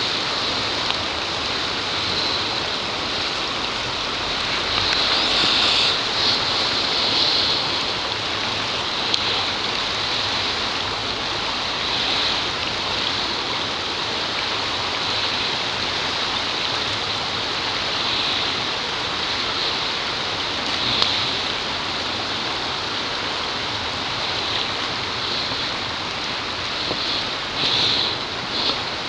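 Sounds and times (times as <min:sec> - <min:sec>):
stream babbling over stones: 0:00.0 - 0:29.0.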